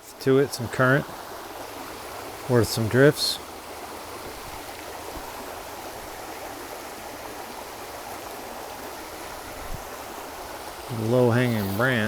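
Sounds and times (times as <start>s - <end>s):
river water rushing over rocks: 0.6s - 12.0s.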